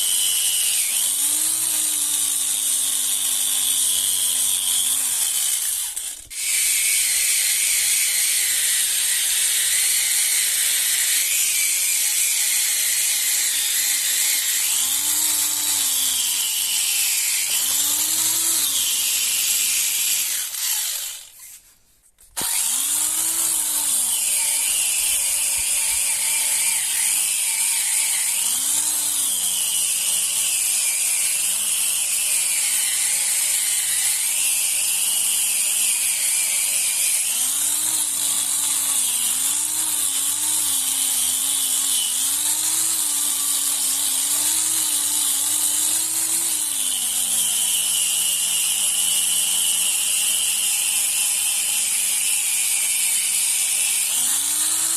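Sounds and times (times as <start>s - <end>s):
power tool grinding rusty metal: 0.0s - 21.6s, 22.3s - 54.9s.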